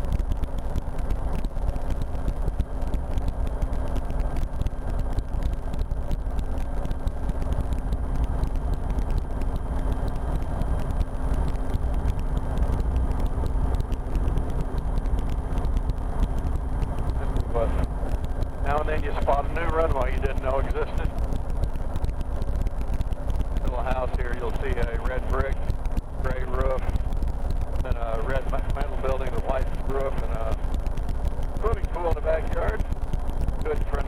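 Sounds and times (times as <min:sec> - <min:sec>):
helicopter engine and rotor rumble: 0:00.0 - 0:34.0.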